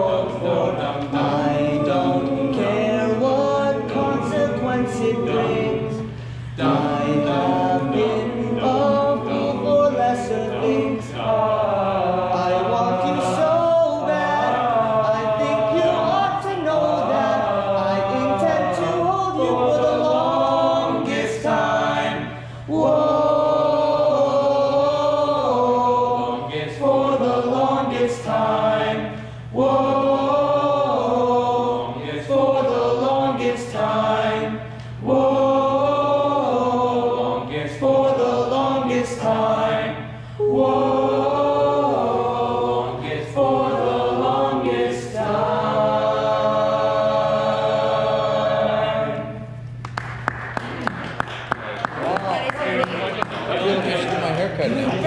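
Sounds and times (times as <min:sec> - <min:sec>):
male a cappella group singing: 0:00.0 - 0:49.7.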